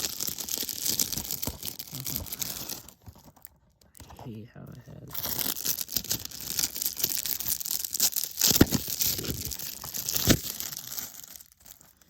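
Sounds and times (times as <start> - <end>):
plastic packaging crinkling: 0.0 - 4.2, 5.0 - 12.0.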